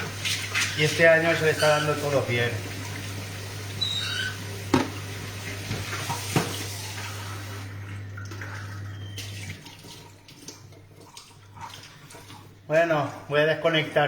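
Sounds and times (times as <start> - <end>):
tap water running into sink: 0.0 - 13.9.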